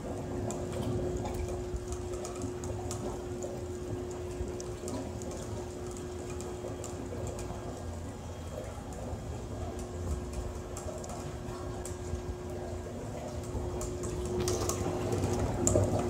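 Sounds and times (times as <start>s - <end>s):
steady hum: 0.0s - 16.0s
water churning and gurgling: 0.0s - 16.0s.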